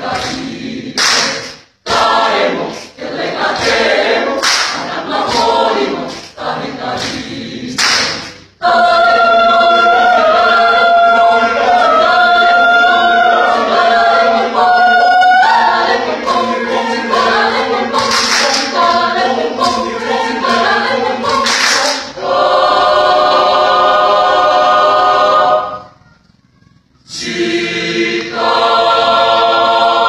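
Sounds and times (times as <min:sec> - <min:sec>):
choir singing held chords: 0:00.0 - 0:30.0.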